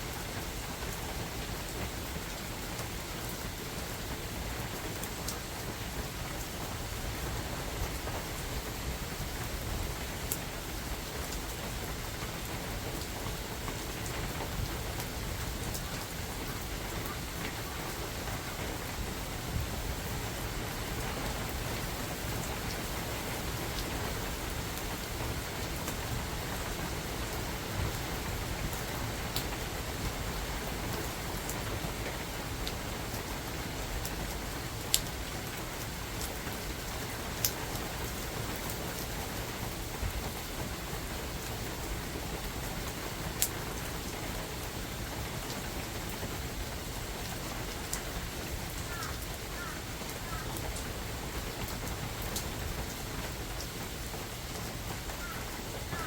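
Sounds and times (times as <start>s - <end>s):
rain falling in a forest: 0.0s - 56.0s.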